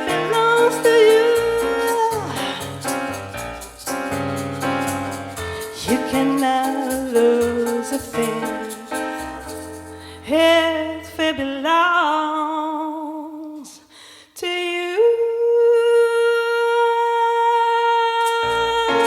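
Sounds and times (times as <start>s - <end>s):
person singing with vibrato: 0.0s - 3.8s, 5.4s - 13.8s, 14.4s - 19.0s.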